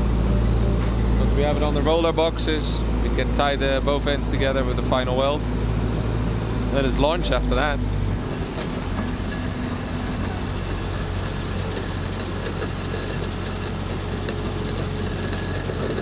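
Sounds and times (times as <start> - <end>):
heavy vehicle engine droning: 0.0 - 16.0.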